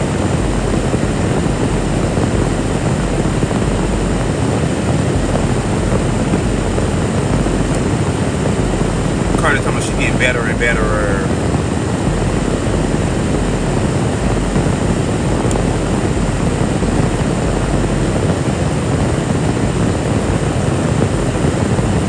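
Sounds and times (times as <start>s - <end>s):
car air conditioning blower: 0.0s - 22.0s.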